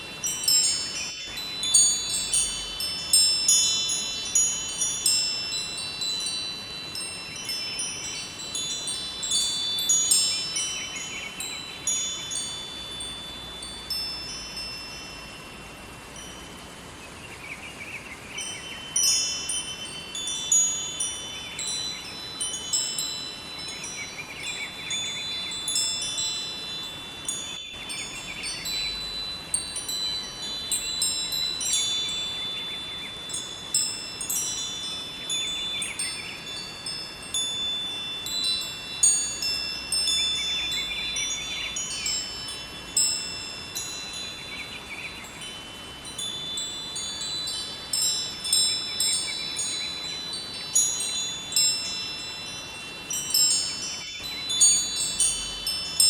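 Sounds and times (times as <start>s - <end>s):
wind chimes ringing: 0.0s - 56.0s.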